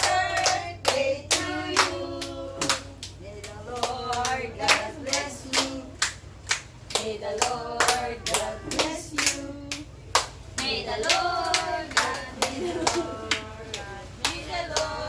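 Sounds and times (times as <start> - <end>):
people singing: 0.0 - 6.2, 6.9 - 10.0, 10.6 - 15.0
rhythmic hand-clapping: 0.0 - 15.0.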